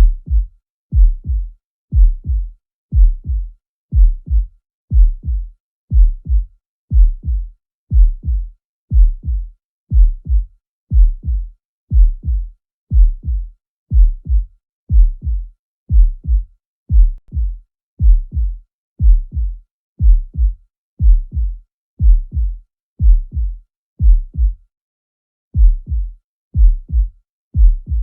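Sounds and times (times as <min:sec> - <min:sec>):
heartbeat lub-dub: 0:00.0 - 0:24.6, 0:25.6 - 0:28.0.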